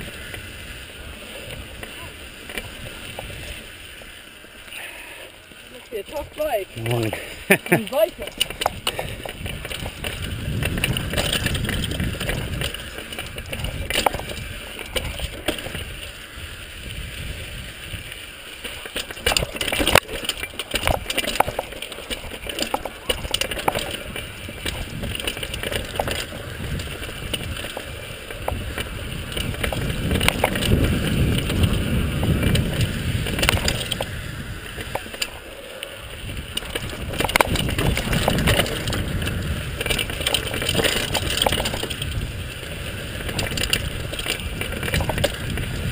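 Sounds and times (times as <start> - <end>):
bike rattling over rocks: 0.0 - 45.9
tyre noise on dirt: 0.0 - 45.9
wind buffeting microphone: 6.1 - 18.2, 20.7 - 45.9.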